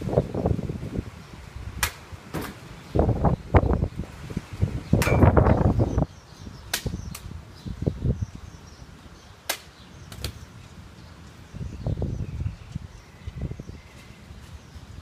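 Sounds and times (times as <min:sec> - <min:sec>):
faint birdsong: 0:02.5 - 0:15.0.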